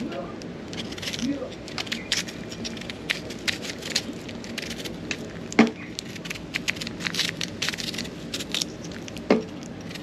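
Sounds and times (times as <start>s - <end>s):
fire crackling and popping: 0.4s - 10.0s.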